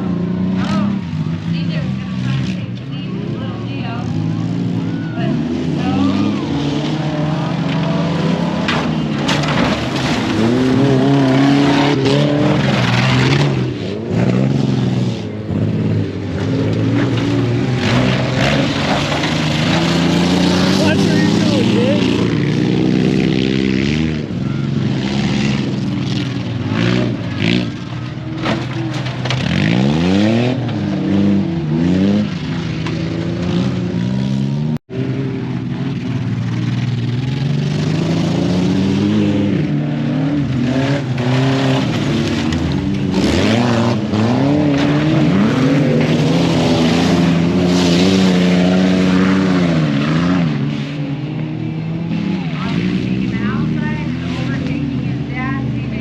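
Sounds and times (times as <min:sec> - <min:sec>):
truck engines revving hard: 0:00.0 - 0:56.0.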